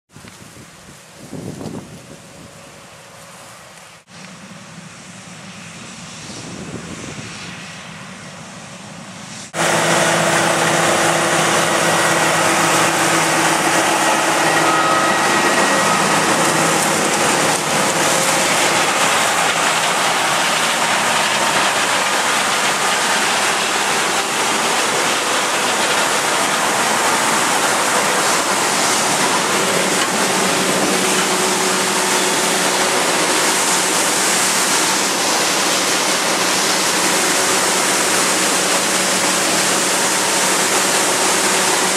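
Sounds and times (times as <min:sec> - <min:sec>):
wind-like noise: 0:00.1 - 0:04.2, 0:04.8 - 0:41.9
harvest machinery running: 0:00.2 - 0:41.9.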